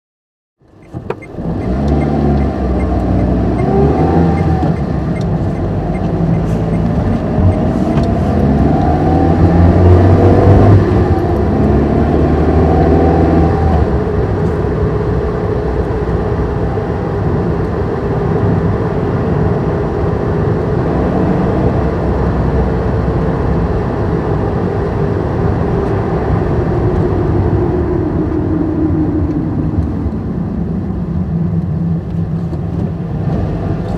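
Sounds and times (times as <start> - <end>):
car engine: 0.6 - 33.9
road noise: 0.6 - 33.9.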